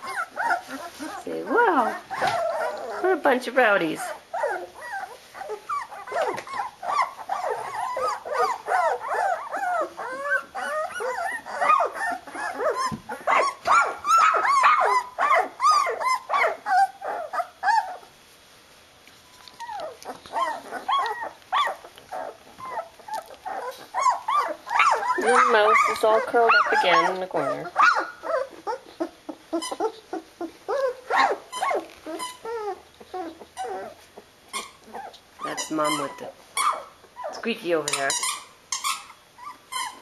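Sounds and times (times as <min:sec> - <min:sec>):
puppies squealing and whining: 0:00.0 - 0:18.2, 0:19.2 - 0:40.0.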